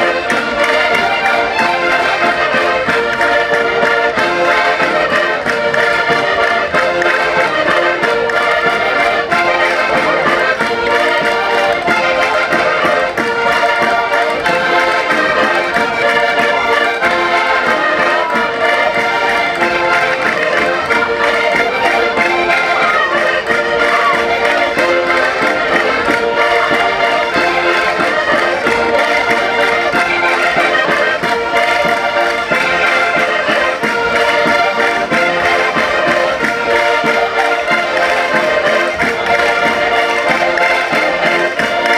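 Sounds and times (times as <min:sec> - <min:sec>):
concertinas playing folk dance tune: 0:00.0 - 0:41.9.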